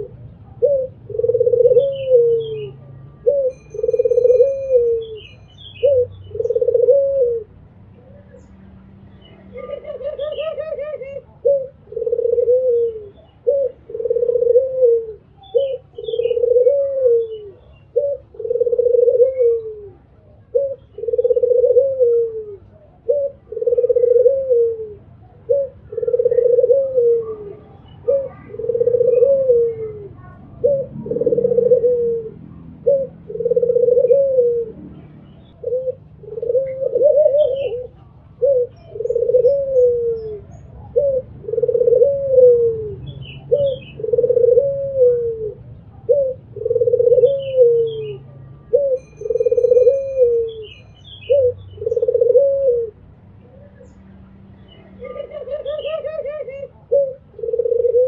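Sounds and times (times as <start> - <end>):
dove cooing: 0.0 - 8.5, 9.2 - 54.0, 54.7 - 58.0.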